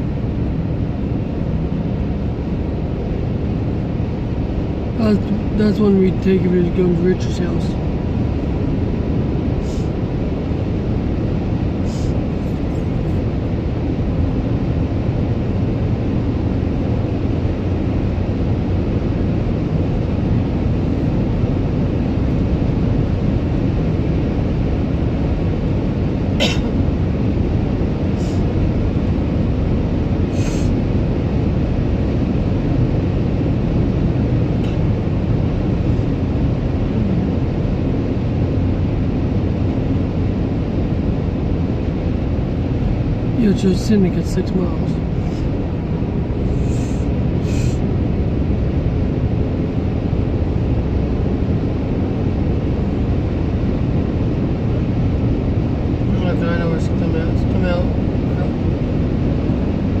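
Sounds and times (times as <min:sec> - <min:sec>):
car road and engine noise: 0:00.0 - 1:00.0.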